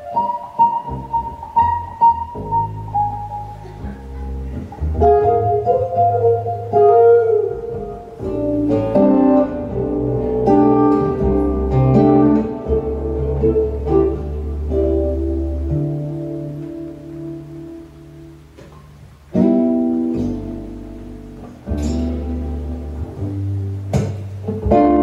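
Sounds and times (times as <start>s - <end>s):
plucked double bass: 0.0s - 25.0s
plucked guitar melody: 0.0s - 25.0s.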